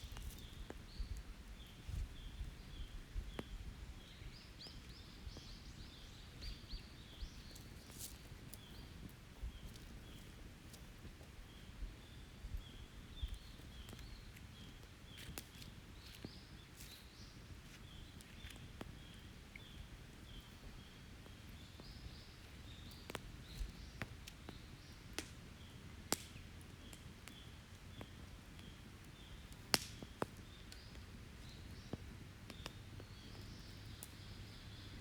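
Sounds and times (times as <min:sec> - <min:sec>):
campfire crackling and popping: 0:00.0 - 0:35.0
small birds chirping: 0:00.0 - 0:35.0.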